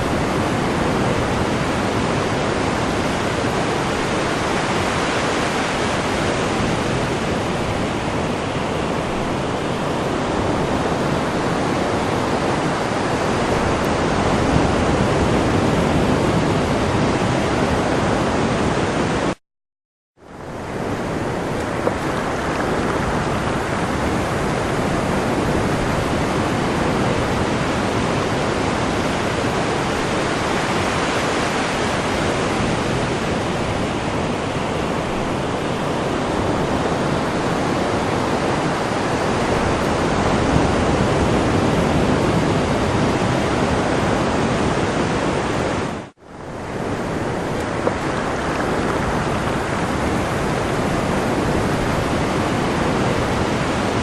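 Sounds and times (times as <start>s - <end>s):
sea waves on shore: 0.0s - 19.4s, 20.2s - 54.0s.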